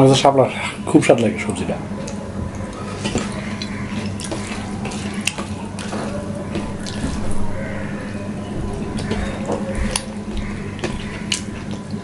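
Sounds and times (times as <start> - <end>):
wet chewing and mouth sounds: 2.0 - 12.0.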